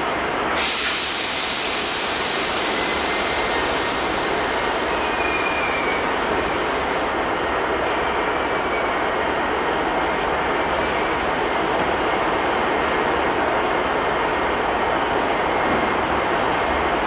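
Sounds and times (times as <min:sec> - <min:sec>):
train rushing rumble: 0:00.0 - 0:17.0.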